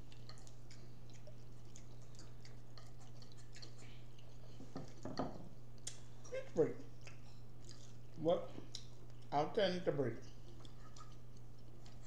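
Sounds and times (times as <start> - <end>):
chewing and mouth sounds: 0.0 - 9.4, 10.2 - 12.0
steady low hum: 0.0 - 12.0.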